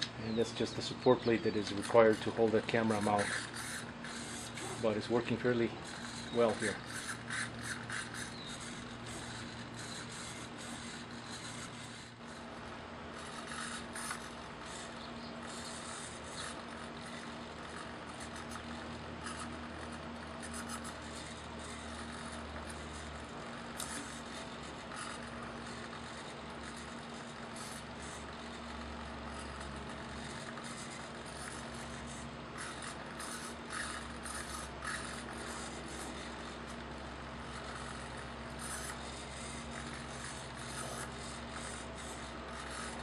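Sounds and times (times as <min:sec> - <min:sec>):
small servos whirring: 0:00.0 - 0:43.0
steady low hum: 0:00.0 - 0:43.0.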